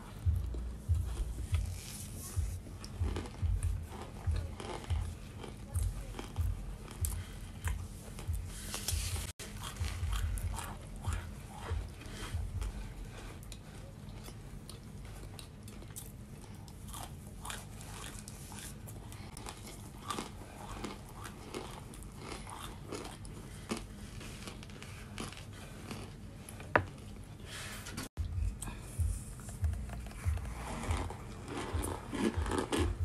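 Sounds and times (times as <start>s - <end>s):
crisp crunching chewing: 0.2s - 27.1s, 29.3s - 33.0s.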